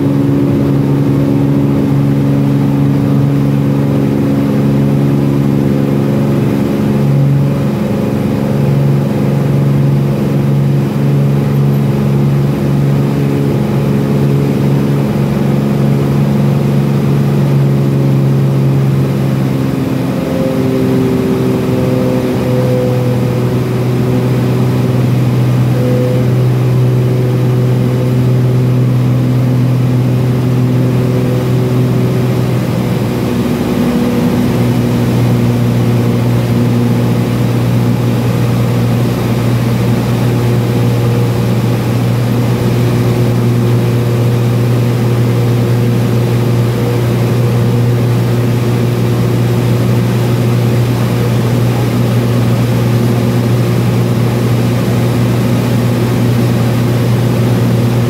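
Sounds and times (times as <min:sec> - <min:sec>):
airplane engine and propeller: 0:00.0 - 0:58.0.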